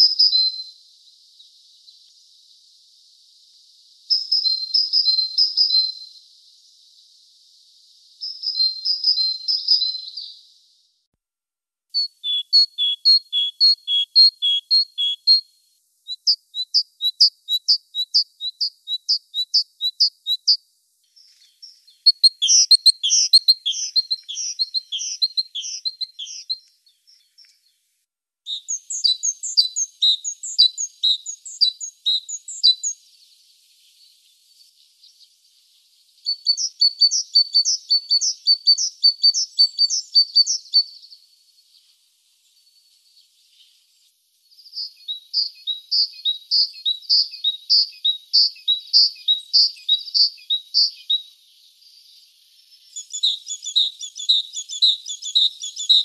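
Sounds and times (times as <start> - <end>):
great tit singing: 0.0 - 2.5, 3.3 - 10.6, 12.0 - 27.7, 28.5 - 35.4, 36.0 - 41.7, 44.5 - 56.0.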